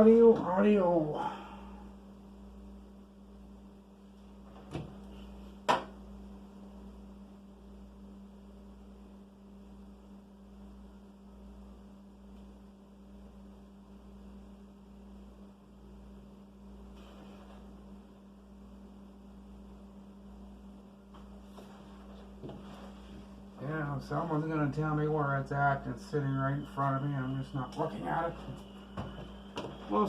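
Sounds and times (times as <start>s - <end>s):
electrical mains hum: 0.0s - 30.0s.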